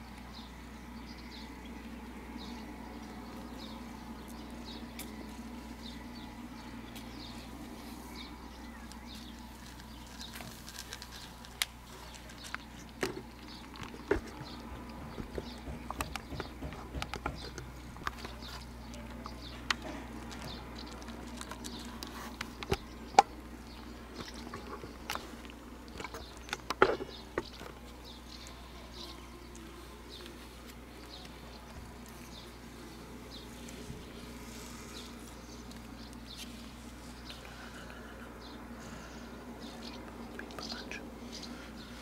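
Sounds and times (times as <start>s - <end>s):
kitten crunching dry kibble: 7.0s - 41.7s.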